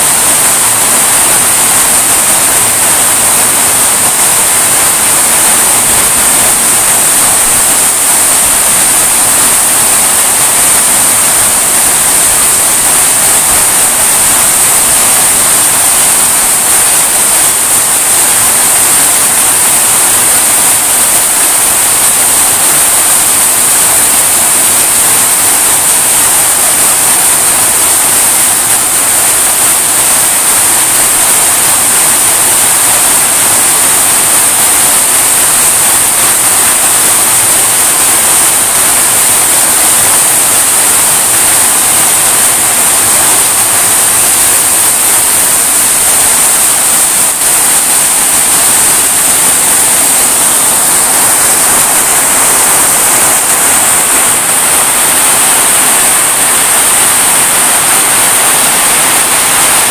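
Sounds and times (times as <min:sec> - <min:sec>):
heavy rain on trees: 0:00.0 - 0:59.9.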